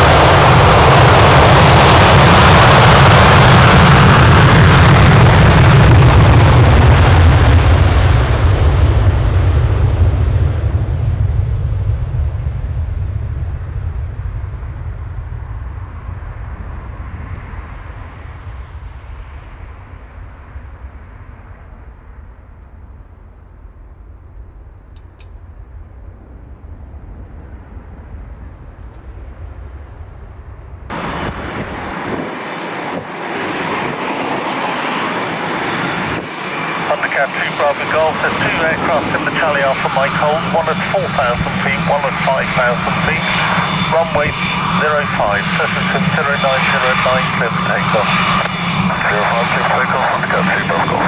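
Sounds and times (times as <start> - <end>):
aircraft engine rumble: 0.0 - 51.0.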